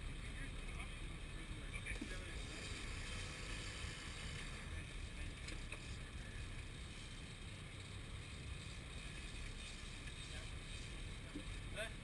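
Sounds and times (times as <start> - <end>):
boat engine rumbling: 0.0 - 12.0
water hissing along hull: 1.9 - 12.0.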